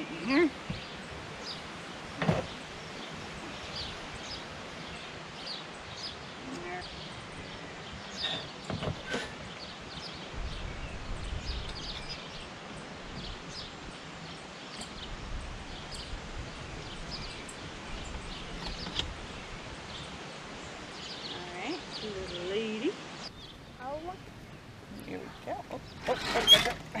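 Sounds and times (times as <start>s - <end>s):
low wind rumble on microphone: 0.0s - 27.0s
small birds chirping: 0.0s - 27.0s.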